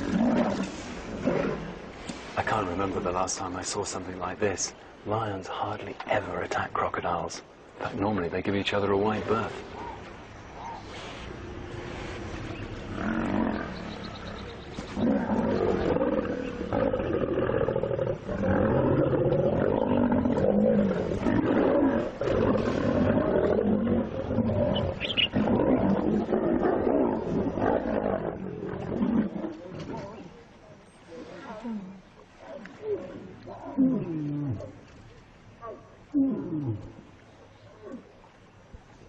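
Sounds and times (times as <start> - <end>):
lions growling: 0.0 - 3.4, 9.1 - 35.0, 35.6 - 38.2.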